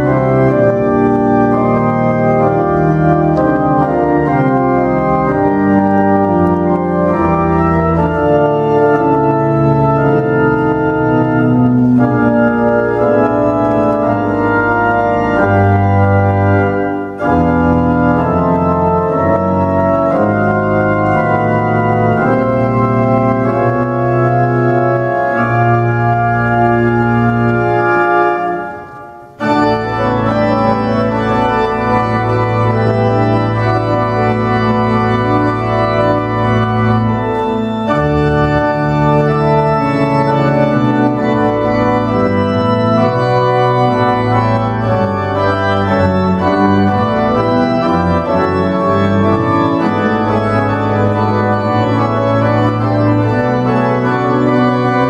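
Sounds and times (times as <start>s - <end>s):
pipe organ sustained chords: 0.0s - 55.0s.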